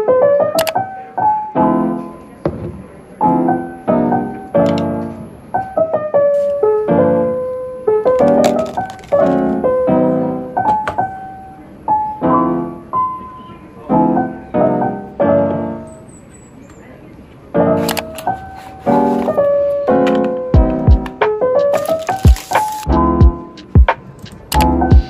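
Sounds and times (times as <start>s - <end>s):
soft piano chords: 0.0s - 25.0s.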